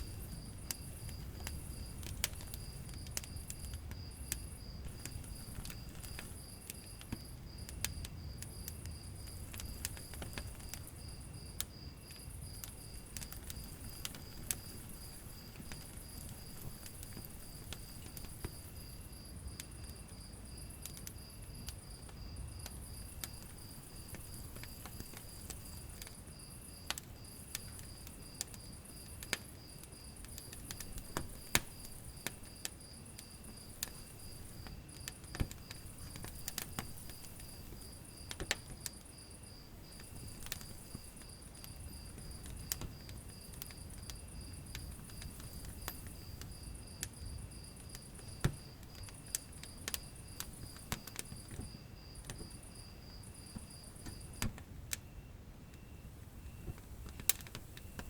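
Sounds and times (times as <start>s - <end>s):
low rumble of burning: 0.0s - 58.0s
wood fire crackling and popping: 0.0s - 58.0s.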